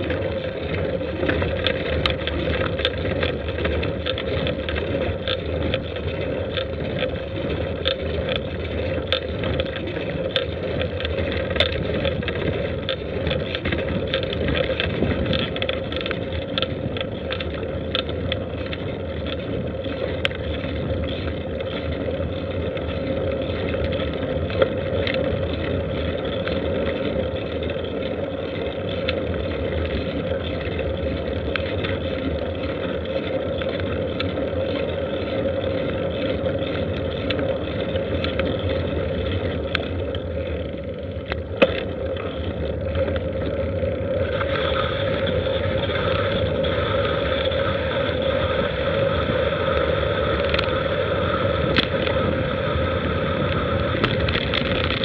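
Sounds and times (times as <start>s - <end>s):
wind and motion rumble: 0.0s - 55.0s.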